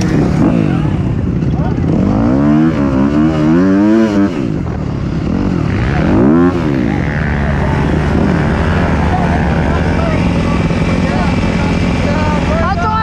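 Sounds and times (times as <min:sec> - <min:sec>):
dirt bike engine revving: 0:00.0 - 0:13.0
engines idling: 0:00.0 - 0:13.0.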